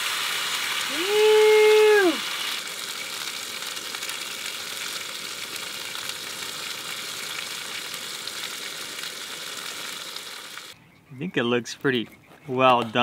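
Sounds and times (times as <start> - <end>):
steak sizzling with crackles: 0.0 - 10.8.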